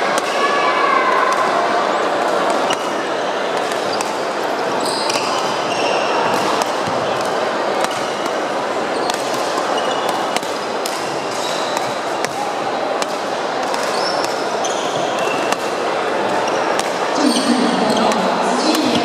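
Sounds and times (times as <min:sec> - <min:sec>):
din of busy sports hall: 0:00.0 - 0:19.0
sneakers squeaking on court floor: 0:02.0 - 0:19.0
rackets striking shuttlecocks: 0:02.2 - 0:19.0.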